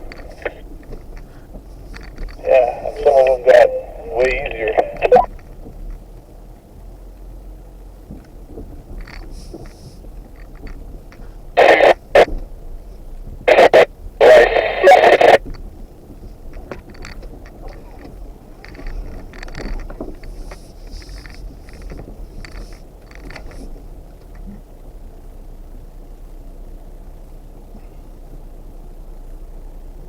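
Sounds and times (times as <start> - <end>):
vehicle running: 0.0 - 14.8, 15.4 - 30.0.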